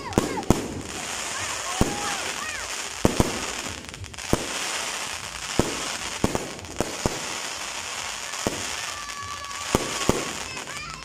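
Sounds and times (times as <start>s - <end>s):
fireworks crackling: 0.0s - 11.0s
fireworks sharp bangs: 0.0s - 11.0s.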